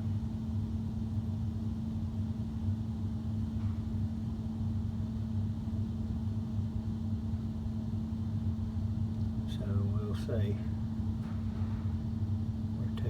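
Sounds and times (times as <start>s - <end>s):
air handler blower hum: 0.0s - 13.0s.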